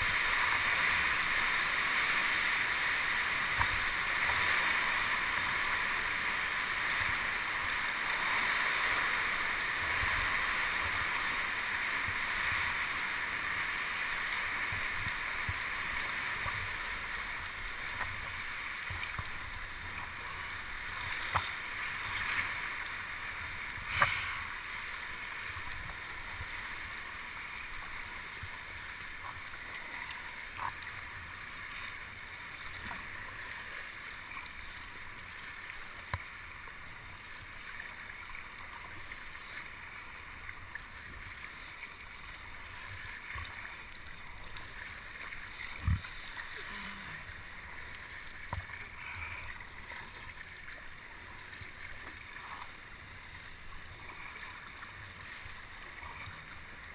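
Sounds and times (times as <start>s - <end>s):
water rushing around kayak: 0.0s - 56.9s.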